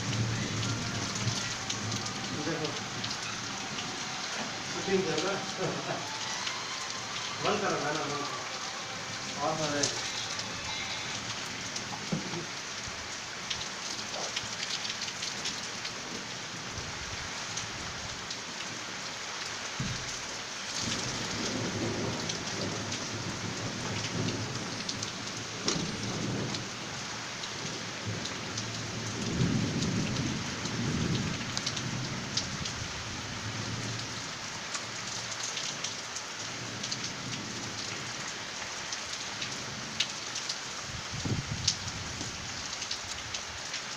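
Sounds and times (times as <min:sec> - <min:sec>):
sharp raindrops close by: 0:00.0 - 0:43.9
steady rain falling: 0:00.0 - 0:43.9.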